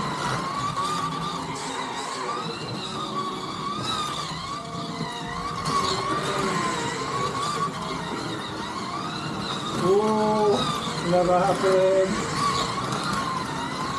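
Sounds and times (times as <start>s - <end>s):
slot car motors whining: 0.0s - 13.9s.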